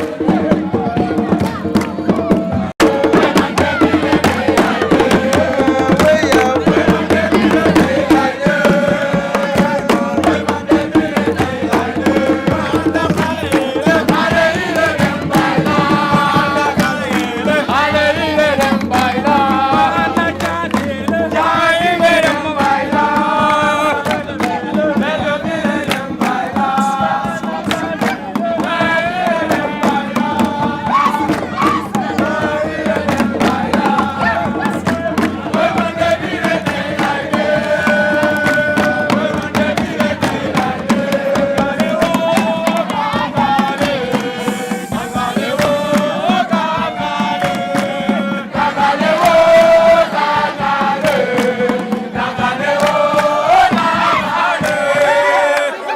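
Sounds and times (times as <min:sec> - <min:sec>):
fast drum rhythm: 0:00.0 - 0:55.2
voices singing: 0:00.0 - 0:55.9.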